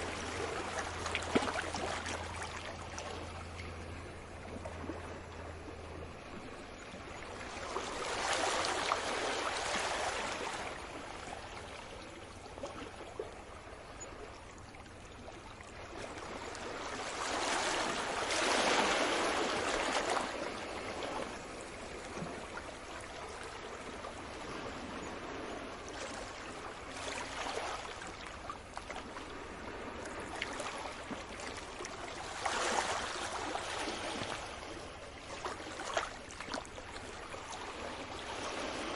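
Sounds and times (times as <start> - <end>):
sea waves breaking: 0.0 - 38.9.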